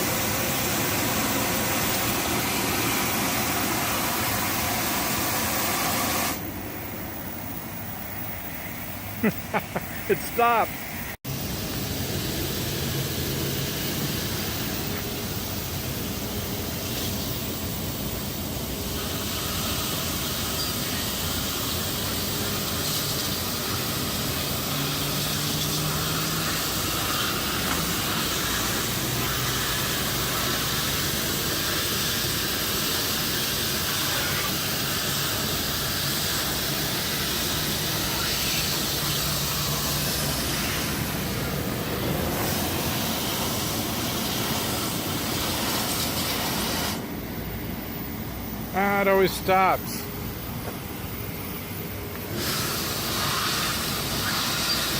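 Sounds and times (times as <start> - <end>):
car wash machinery rushing hiss: 0.0 - 54.9.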